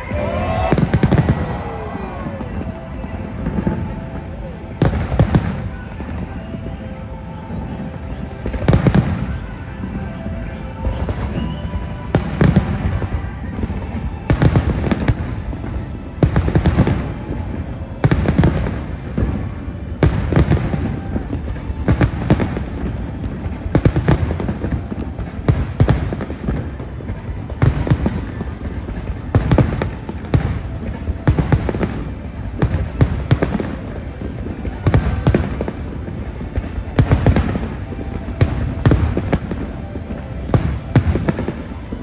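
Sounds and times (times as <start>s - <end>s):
fireworks bangs: 0.0s - 42.0s
fireworks low rumbling: 0.0s - 42.0s.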